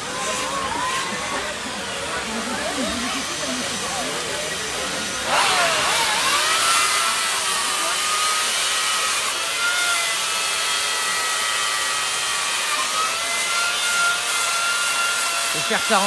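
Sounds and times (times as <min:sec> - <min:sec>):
power tool whining carving ice: 0:00.0 - 0:16.0.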